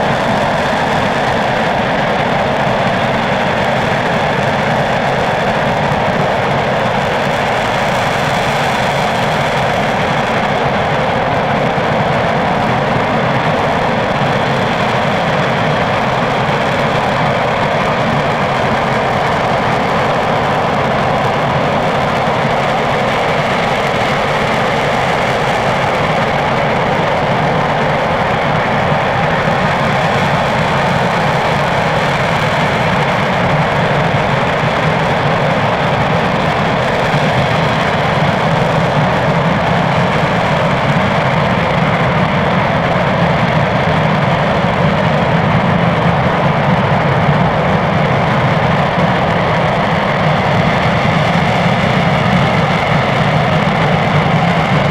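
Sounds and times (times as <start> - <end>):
rocket engine roaring: 0.0 - 54.9.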